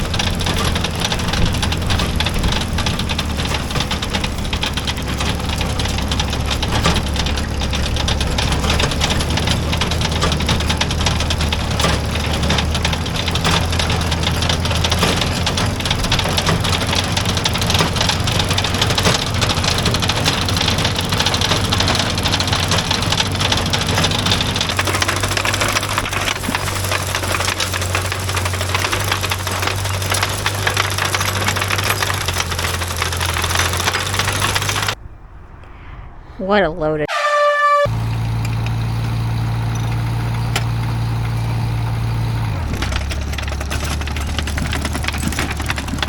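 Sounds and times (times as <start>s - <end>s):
manure spreader clattering: 0.0s - 35.0s, 37.9s - 46.0s
tractor engine running: 0.0s - 35.7s, 37.0s - 46.0s.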